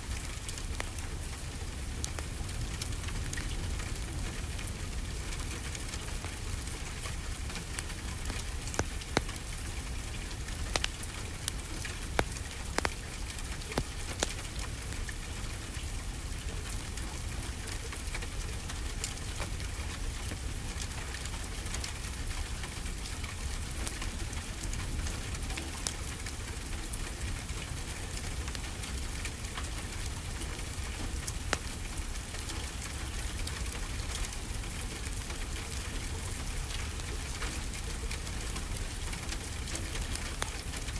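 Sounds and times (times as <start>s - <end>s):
wood fire crackling and popping: 0.0s - 20.6s, 21.2s - 40.9s
steady rainfall: 0.0s - 40.9s.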